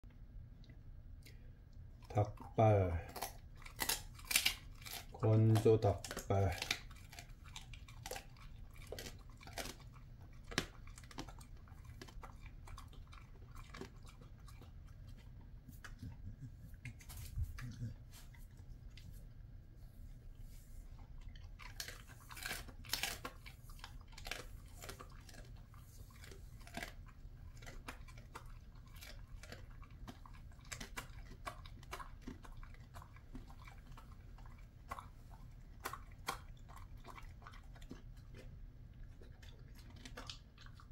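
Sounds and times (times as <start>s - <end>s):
dog chewing crunchy bones: 1.9s - 19.4s, 20.9s - 40.9s.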